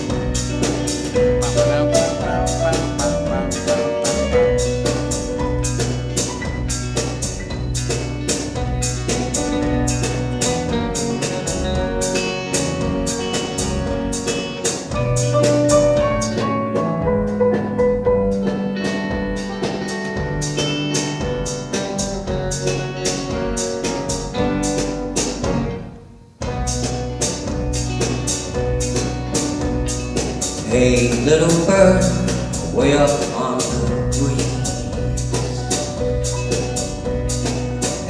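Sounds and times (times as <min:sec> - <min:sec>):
drums steady beat: 0:00.0 - 0:25.8, 0:26.4 - 0:38.0
live band playing: 0:00.0 - 0:38.0.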